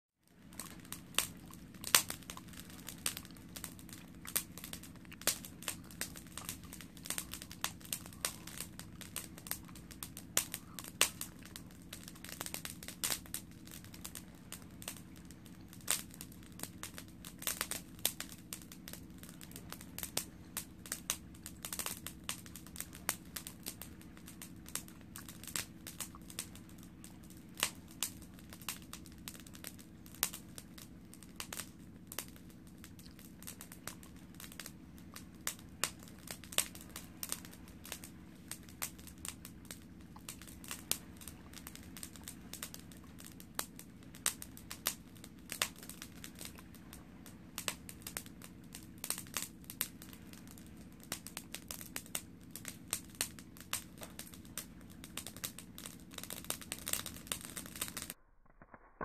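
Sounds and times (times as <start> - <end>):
faint low hum: 0.2 - 59.0
wood fire crackling and popping: 0.3 - 59.0.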